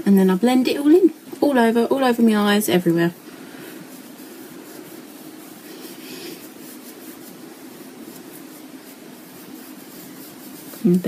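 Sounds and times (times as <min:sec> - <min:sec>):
brush strokes on skin: 0:00.0 - 0:11.0
faint steady hum: 0:00.0 - 0:11.0.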